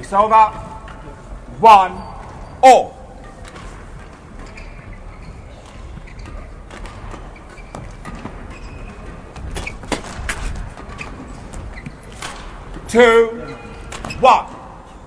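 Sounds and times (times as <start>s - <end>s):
shoes squeaking on court: 0.5s - 15.0s.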